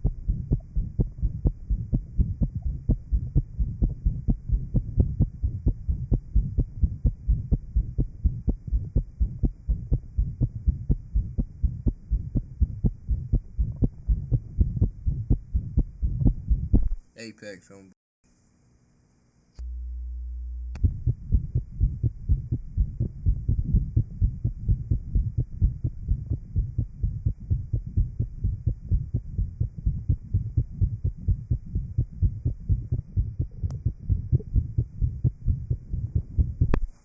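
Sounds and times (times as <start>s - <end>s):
low-pitched heartbeats: 0.0s - 17.0s, 19.6s - 37.0s
steady low hum: 0.0s - 17.1s, 18.3s - 37.0s.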